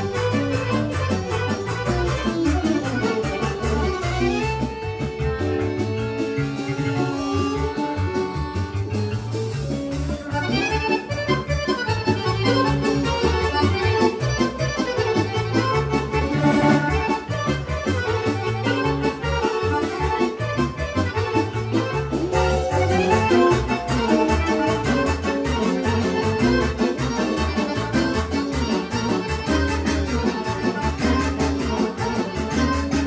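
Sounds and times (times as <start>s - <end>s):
accordion melody: 0.0s - 33.0s
driving bass and chord beat: 0.0s - 33.0s.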